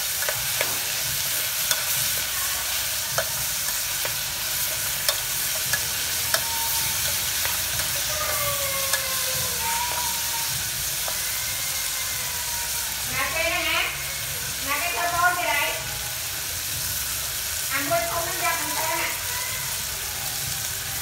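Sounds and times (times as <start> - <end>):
food sizzling in a pot: 0.0 - 21.0.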